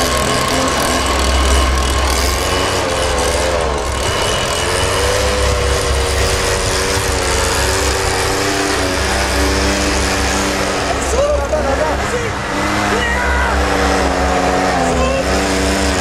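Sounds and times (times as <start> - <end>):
leaf blower engine running: 0.0 - 16.0.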